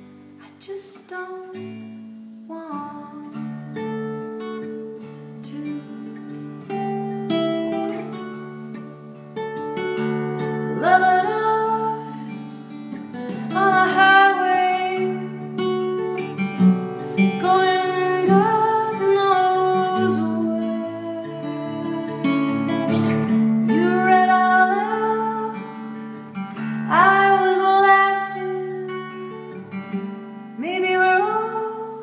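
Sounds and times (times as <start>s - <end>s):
acoustic guitar strummed and picked: 0.0s - 32.0s
woman singing: 0.4s - 3.9s, 5.4s - 7.2s, 10.6s - 32.0s.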